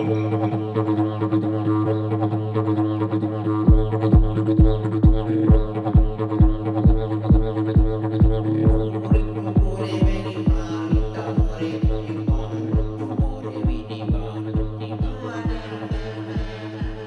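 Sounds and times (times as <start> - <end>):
rhythmic pulse: 0.0 - 1.4, 3.6 - 17.0
didgeridoo low drone: 0.0 - 17.0.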